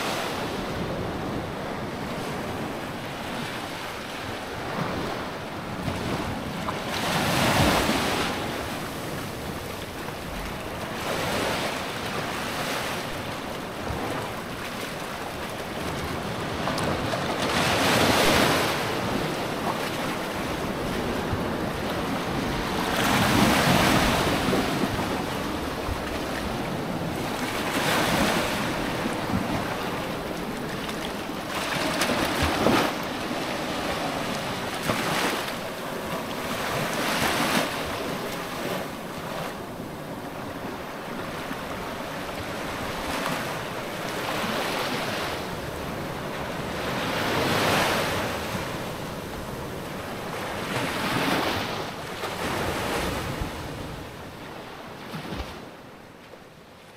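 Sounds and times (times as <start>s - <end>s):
wind on microphone: 0.0s - 55.6s
waves breaking on beach: 0.0s - 56.9s.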